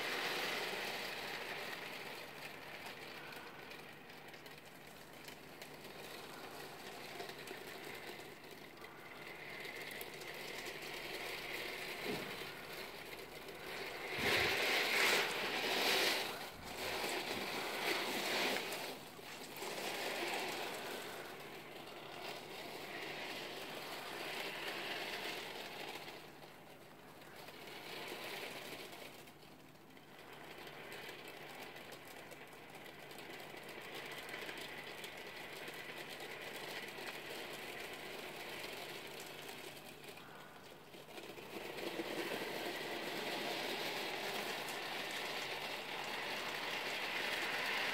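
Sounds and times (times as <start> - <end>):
steel ball bearings rattling: 0.0 - 47.9.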